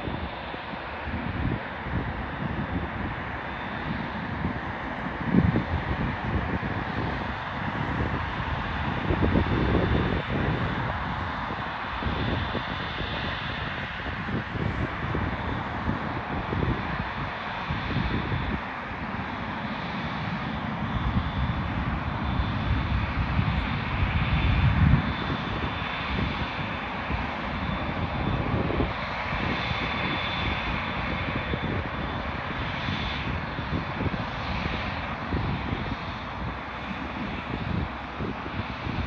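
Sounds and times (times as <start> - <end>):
jet engines roaring with whine: 0.0 - 39.0.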